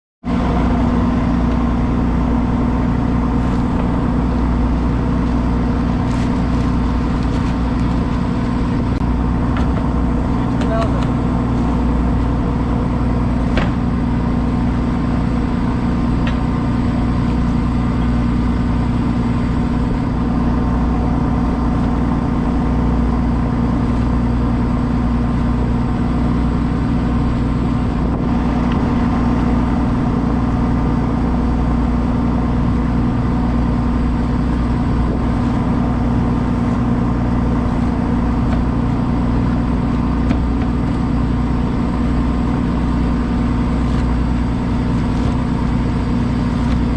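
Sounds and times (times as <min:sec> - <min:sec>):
engine running steadily: 0:00.2 - 0:46.9.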